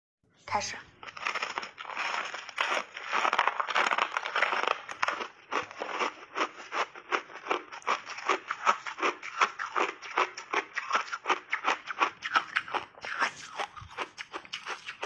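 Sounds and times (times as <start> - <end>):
ice chewing crunches: 1.0 - 15.0.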